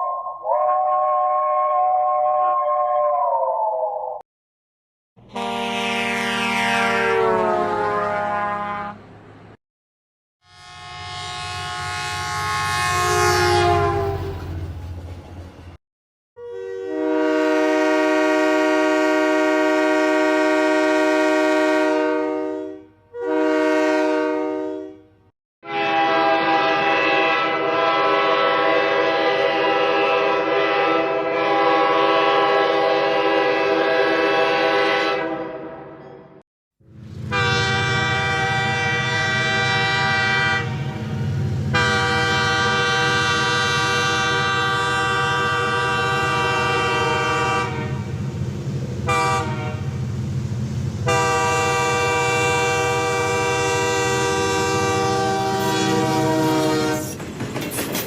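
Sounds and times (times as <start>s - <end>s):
train horn: 0.0s - 3.0s, 5.2s - 9.2s, 10.4s - 14.7s, 16.4s - 36.4s, 37.2s - 48.2s, 49.0s - 50.0s, 51.0s - 57.2s.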